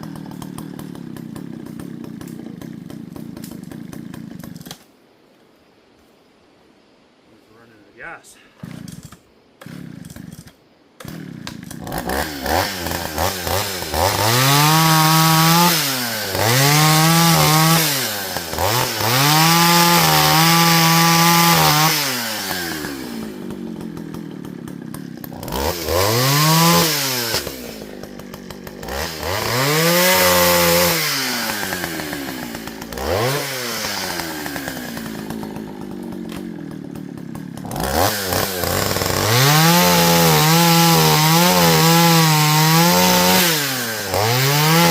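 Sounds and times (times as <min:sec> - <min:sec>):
chainsaw revving: 0:00.0 - 0:04.8, 0:08.6 - 0:44.9.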